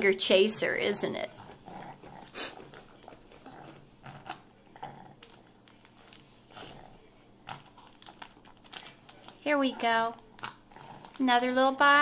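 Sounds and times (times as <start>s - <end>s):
baby chewing on plastic bib: 1.3s - 11.3s.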